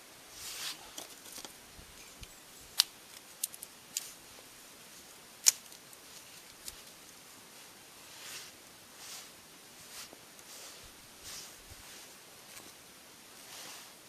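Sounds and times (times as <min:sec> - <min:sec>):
kindling fire crackling: 0:00.0 - 0:14.0.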